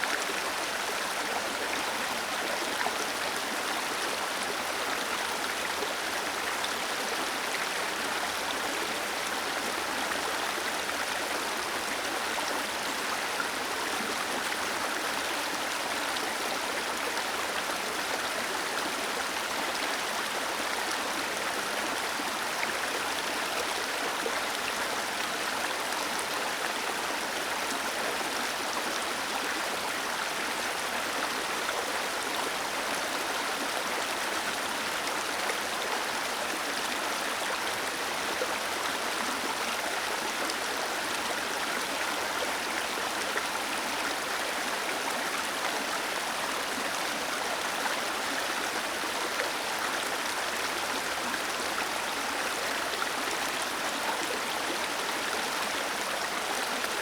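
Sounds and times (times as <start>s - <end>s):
small waterfall over rocks: 0.0s - 57.0s.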